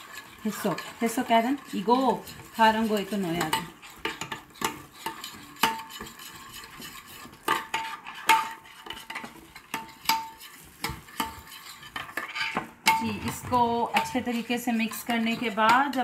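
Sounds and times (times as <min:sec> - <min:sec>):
spoon stirring thick marinade: 0:00.0 - 0:16.0.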